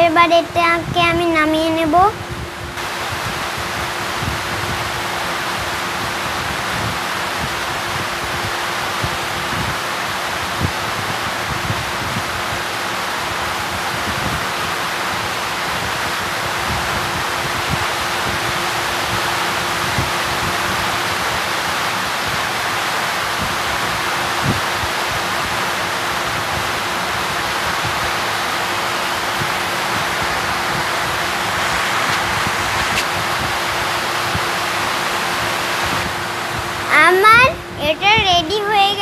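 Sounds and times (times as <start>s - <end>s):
steady rushing hiss: 0.0s - 39.0s.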